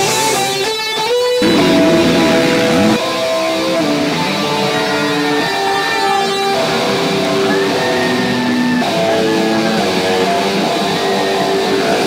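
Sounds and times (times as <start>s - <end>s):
electric guitar lead: 0.0s - 12.0s.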